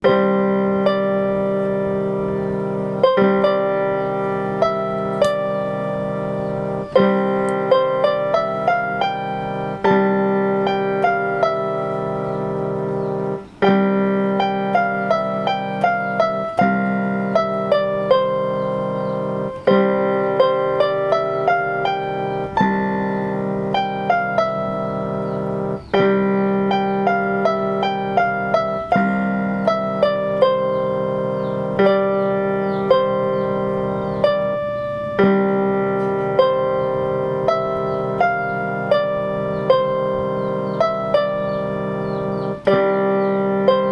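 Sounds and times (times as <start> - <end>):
gentle piano piece: 0.0 - 43.9.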